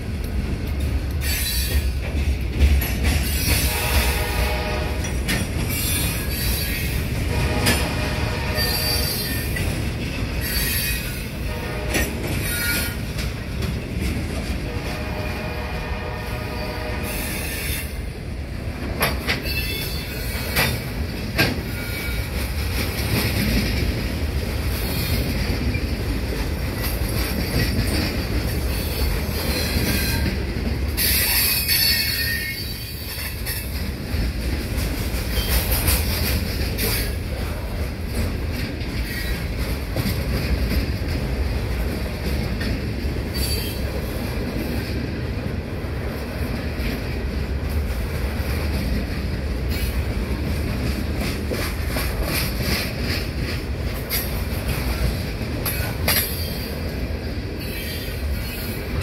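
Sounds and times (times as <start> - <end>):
wheels clicking over rail joints: 0.0 - 4.3, 4.9 - 15.0, 18.6 - 59.0
train wheels rumbling on rail: 0.0 - 59.0.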